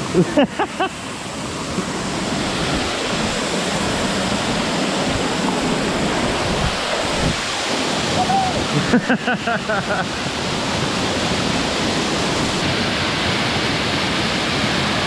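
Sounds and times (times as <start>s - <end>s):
rush of moving water: 0.0s - 15.0s.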